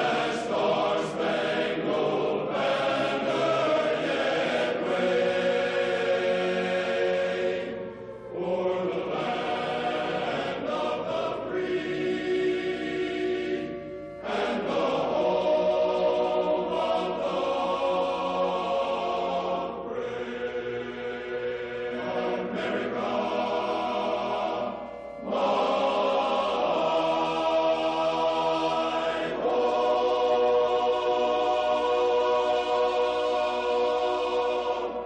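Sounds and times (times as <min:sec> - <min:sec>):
choir holding solemn chords: 0:00.0 - 0:35.0.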